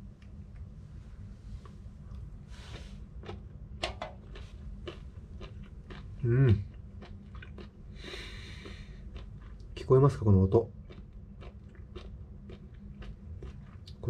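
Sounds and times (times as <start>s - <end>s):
crunchy chewing: 1.6s - 14.0s.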